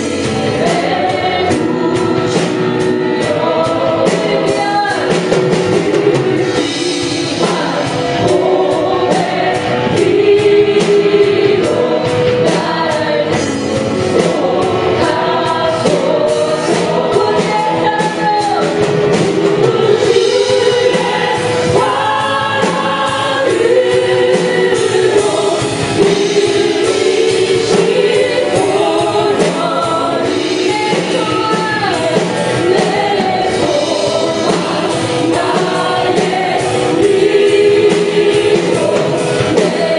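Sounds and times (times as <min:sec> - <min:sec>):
band playing worship music: 0:00.0 - 0:39.9
drums beating: 0:00.0 - 0:39.9
group of voices singing: 0:00.0 - 0:39.9.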